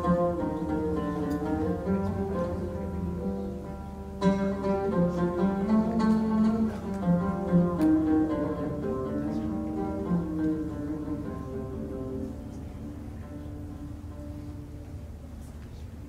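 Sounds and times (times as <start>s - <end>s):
oud playing plucked notes: 0.0s - 15.6s.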